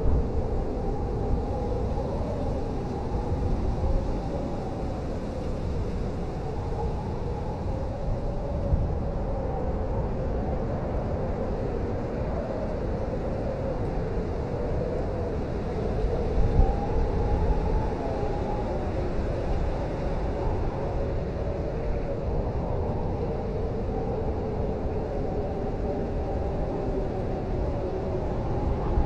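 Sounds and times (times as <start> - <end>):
howling blizzard wind: 0.0 - 29.0.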